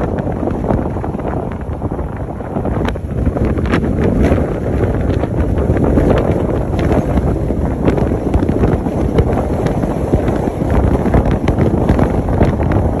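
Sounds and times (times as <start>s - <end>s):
car road noise: 0.0s - 13.0s
wind buffeting microphone: 0.0s - 13.0s.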